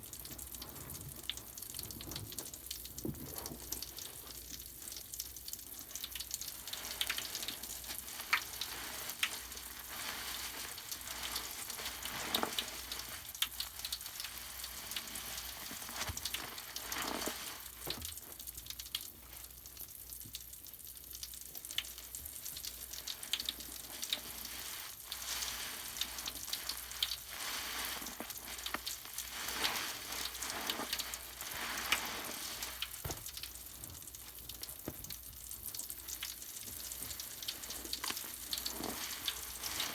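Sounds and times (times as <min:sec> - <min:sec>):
bath crackles fizzing in water: 0:00.0 - 0:39.9.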